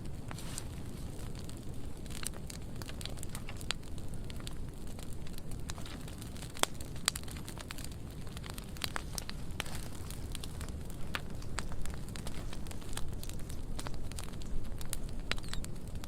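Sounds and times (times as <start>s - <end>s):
fire crackling and popping: 0.0s - 16.0s
fire flames rushing: 0.0s - 16.0s.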